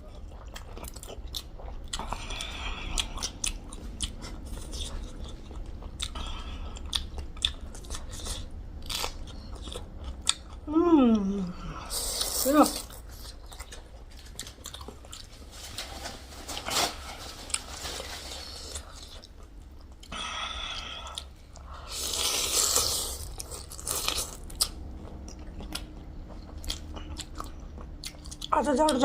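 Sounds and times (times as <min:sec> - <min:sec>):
chewing and crunching food: 0:00.0 - 0:10.7, 0:11.6 - 0:29.0.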